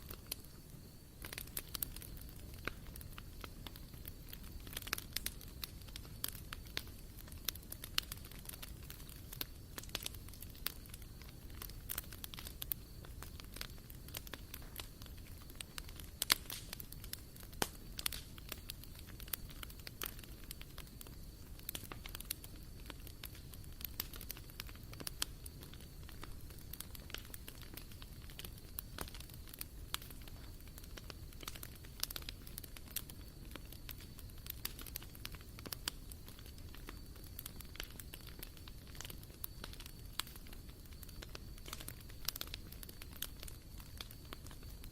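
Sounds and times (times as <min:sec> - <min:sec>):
wood fire crackling: 0:00.0 - 0:44.9
sharp pops and snaps: 0:01.2 - 0:44.9.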